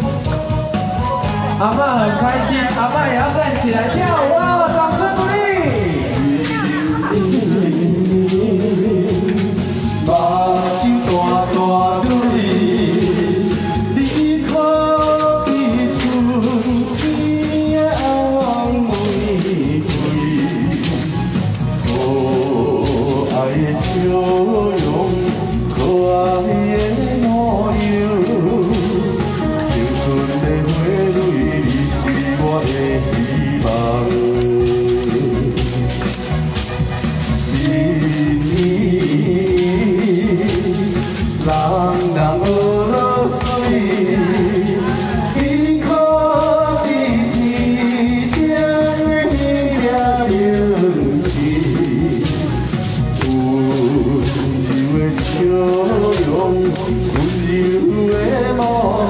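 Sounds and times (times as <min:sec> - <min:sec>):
karaoke backing track: 0:00.0 - 0:59.0
man singing pop song: 0:00.0 - 0:59.0
music with steady beat: 0:00.0 - 0:59.0
shaker-like percussion: 0:00.0 - 0:59.0
tambourine jingling: 0:00.0 - 0:59.0.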